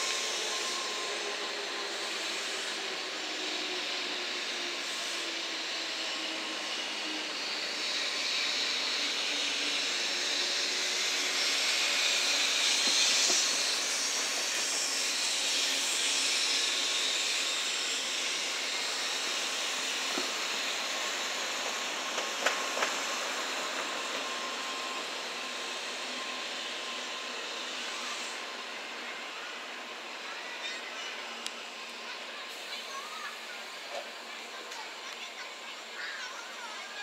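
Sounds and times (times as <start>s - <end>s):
train rolling past hissing: 0.0s - 37.0s.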